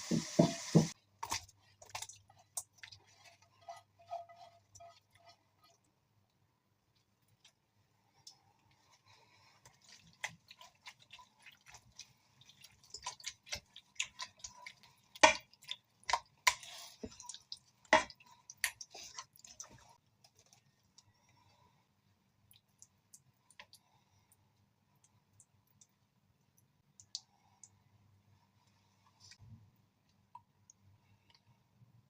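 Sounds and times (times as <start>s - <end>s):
wet food handling: 0.9s - 27.3s.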